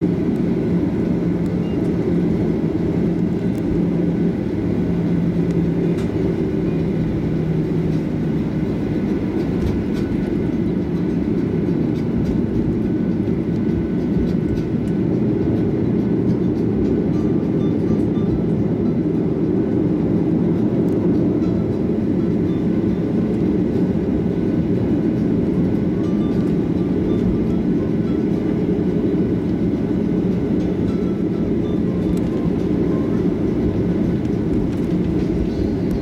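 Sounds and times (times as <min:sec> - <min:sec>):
aircraft cabin engine rumble: 0:00.0 - 0:36.0.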